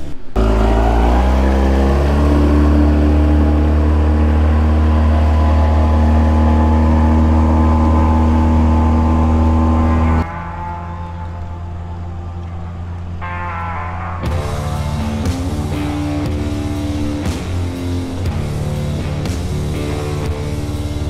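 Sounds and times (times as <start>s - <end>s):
small outboard motor accelerating: 0.0s - 12.2s, 14.3s - 21.0s.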